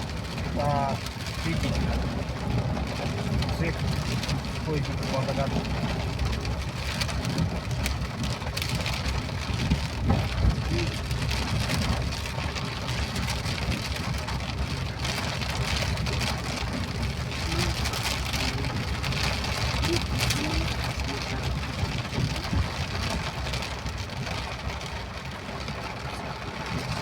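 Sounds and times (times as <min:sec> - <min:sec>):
rain falling: 0:00.0 - 0:27.0
raindrops striking close by: 0:00.0 - 0:27.0
vehicle rumbling on road: 0:00.0 - 0:27.0.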